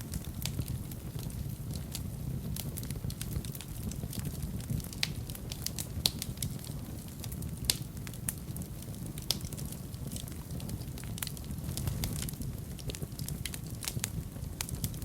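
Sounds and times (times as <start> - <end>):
fire crackles and pops: 0.0 - 15.0
wood fire burning: 0.0 - 15.0.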